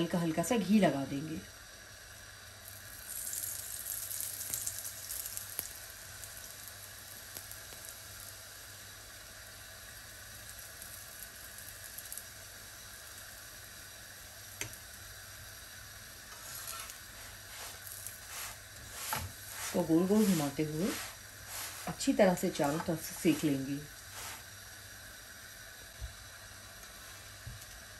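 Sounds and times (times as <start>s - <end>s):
ghee sizzling on a hot pan: 0.0s - 27.9s.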